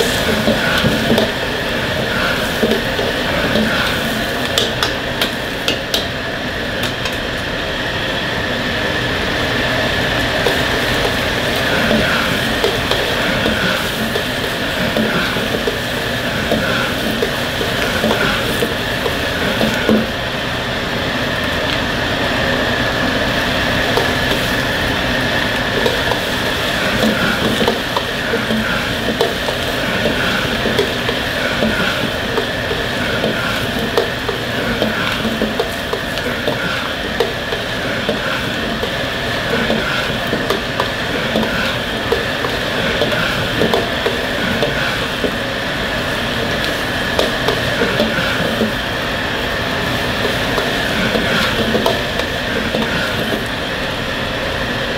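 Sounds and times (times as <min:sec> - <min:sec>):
frying sizzle: 0:00.0 - 0:54.9
gas burner rushing: 0:00.0 - 0:54.9.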